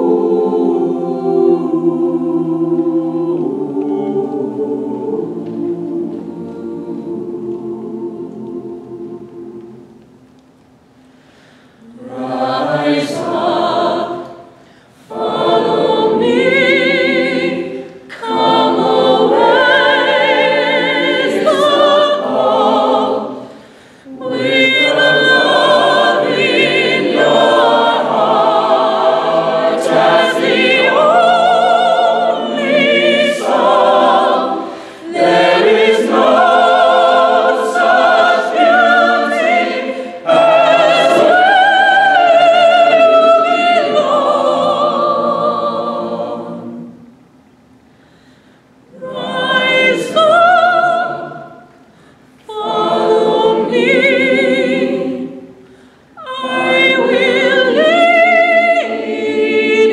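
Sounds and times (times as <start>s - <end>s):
choir singing a cappella: 0.0s - 10.2s, 11.3s - 47.4s, 48.6s - 59.9s.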